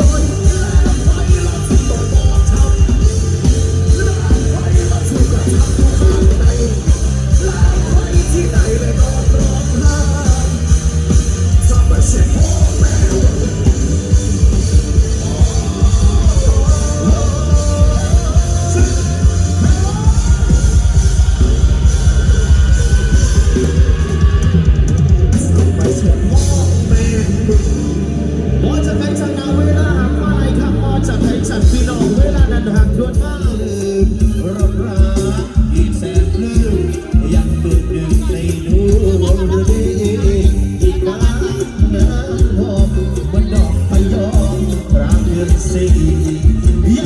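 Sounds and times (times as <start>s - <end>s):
electric guitar line: 0.0s - 47.0s
live rock band playing: 0.0s - 47.0s.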